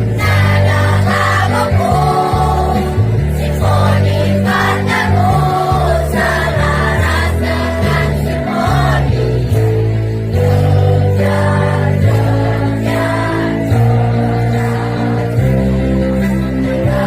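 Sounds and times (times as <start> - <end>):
children's choir singing: 0.0 - 9.4, 10.4 - 15.6
electronic keyboard accompaniment: 0.0 - 17.0.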